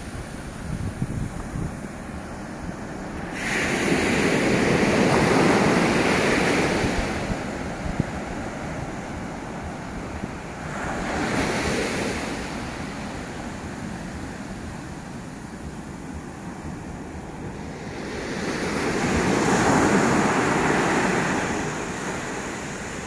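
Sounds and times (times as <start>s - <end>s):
ocean waves on sandy beach: 0.0s - 23.0s
wind rumbling on microphone: 0.0s - 23.0s.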